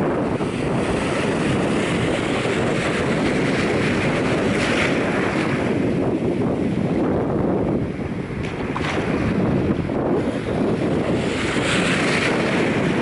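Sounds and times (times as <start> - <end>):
waves washing over sand: 0.0 - 13.0
wind rumbling on microphone: 0.0 - 13.0.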